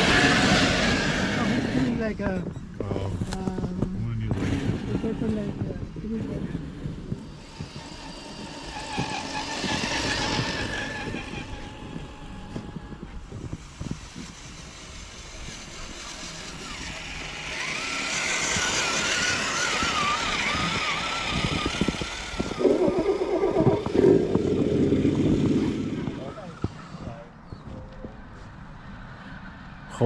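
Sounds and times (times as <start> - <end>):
electric motor and gearbox whining: 0.0 - 28.4.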